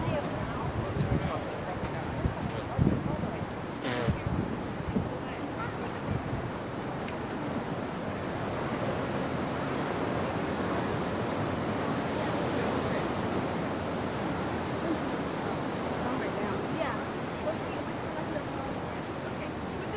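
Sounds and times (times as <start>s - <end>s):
ocean surf over rocks: 0.0s - 19.9s.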